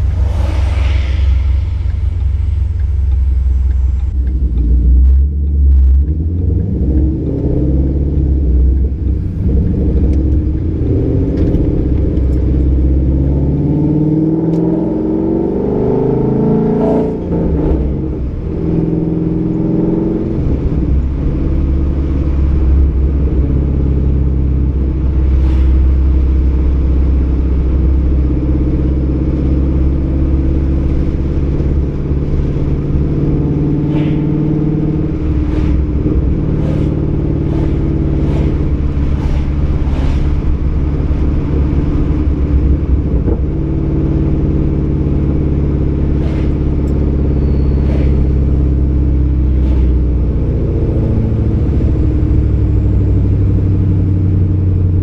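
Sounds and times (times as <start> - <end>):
car engine driving: 0.0 - 55.0.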